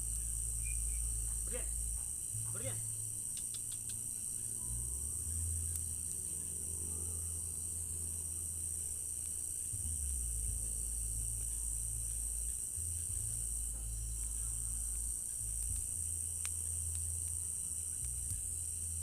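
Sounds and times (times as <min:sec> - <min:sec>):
crickets chirring: 0:00.0 - 0:19.0
low bass hum: 0:00.0 - 0:19.0.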